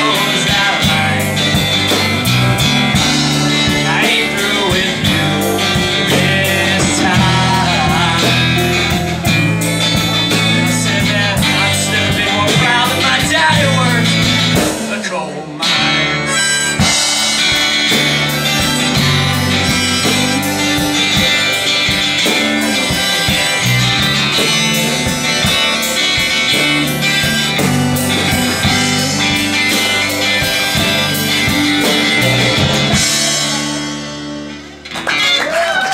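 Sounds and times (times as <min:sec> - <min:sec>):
held low notes: 0:00.0 - 0:14.8, 0:16.2 - 0:34.8
strummed acoustic guitar: 0:00.0 - 0:35.1
drum kit with cymbal hits: 0:00.0 - 0:35.8
electric guitar: 0:00.0 - 0:35.9.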